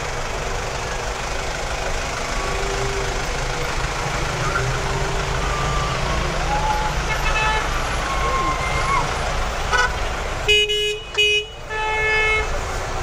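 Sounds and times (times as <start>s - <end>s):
vehicle engine running: 0.0s - 10.5s
street traffic: 0.0s - 13.0s.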